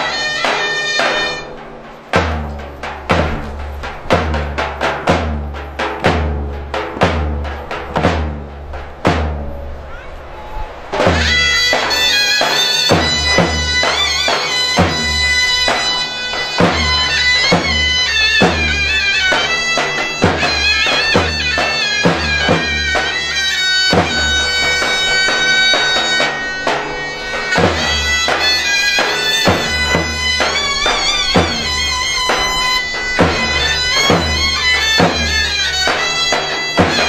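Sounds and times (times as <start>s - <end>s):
deep drum beats: 0.0s - 37.0s
shrill reed wind instrument: 0.0s - 37.0s.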